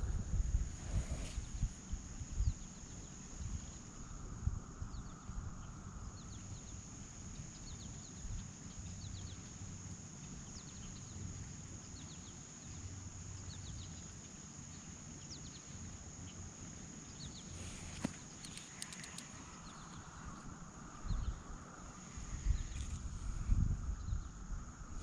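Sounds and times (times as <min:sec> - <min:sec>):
small birds chirping: 0:00.9 - 0:24.5.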